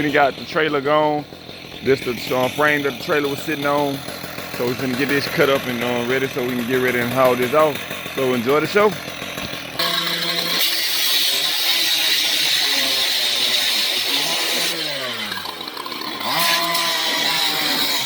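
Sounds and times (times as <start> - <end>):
power saw cutting steel: 0.0 - 18.0.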